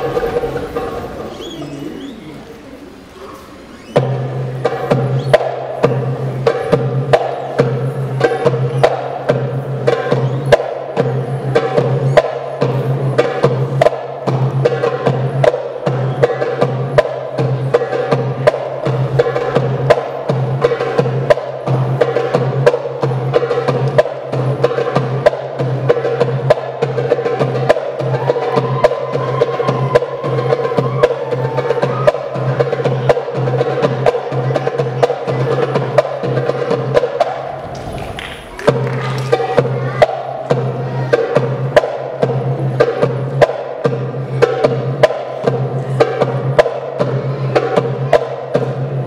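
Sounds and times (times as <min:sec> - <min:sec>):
drum kit: 0:00.0 - 0:02.1, 0:03.2 - 0:49.0
goblet drum rapid strikes: 0:04.0 - 0:49.0.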